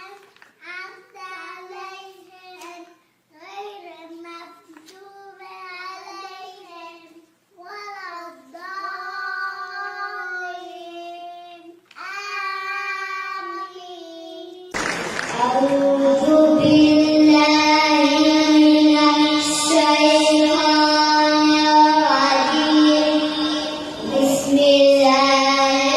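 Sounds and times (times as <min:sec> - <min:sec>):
child chanting recitation: 0:00.0 - 0:14.8, 0:15.4 - 0:25.9
hissy chanted recitation: 0:03.7 - 0:25.9.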